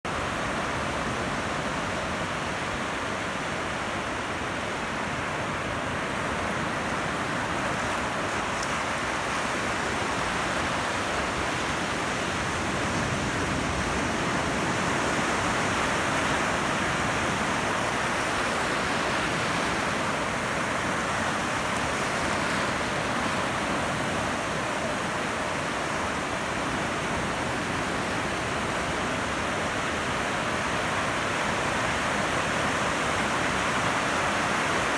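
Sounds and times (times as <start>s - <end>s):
ocean surf breaking: 0.1s - 34.9s.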